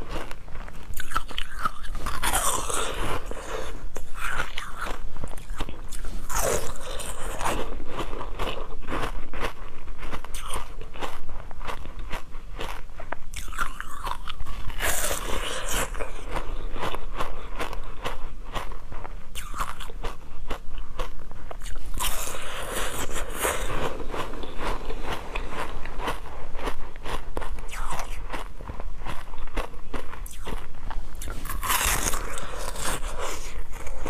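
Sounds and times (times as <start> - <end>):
crunching and chewing food: 0.0 - 34.0.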